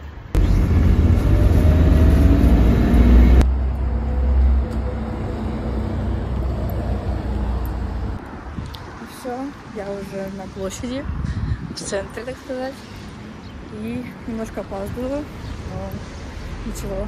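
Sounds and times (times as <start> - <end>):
traffic engines rumbling: 0.0 - 17.0.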